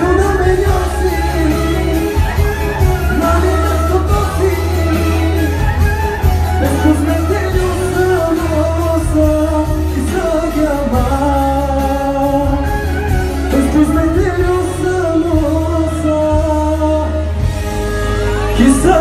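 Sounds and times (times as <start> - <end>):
man singing into a microphone: 0.0 - 17.5, 18.2 - 19.0
loud amplified music with bass: 0.0 - 19.0.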